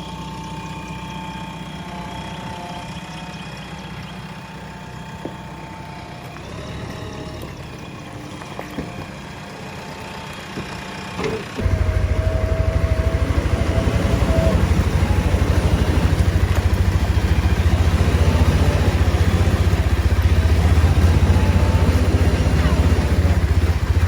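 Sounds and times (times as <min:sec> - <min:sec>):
diesel engine low throb: 0:00.0 - 0:24.0.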